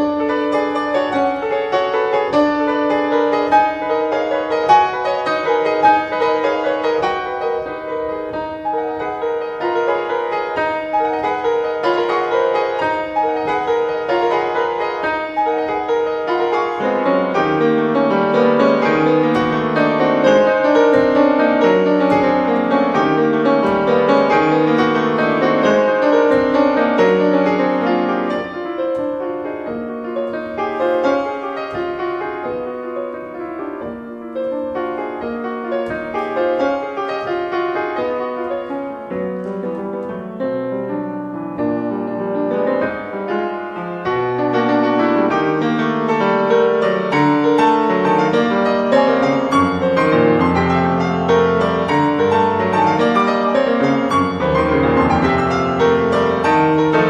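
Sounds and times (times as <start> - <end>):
contemporary classical piano music: 0.0 - 57.0.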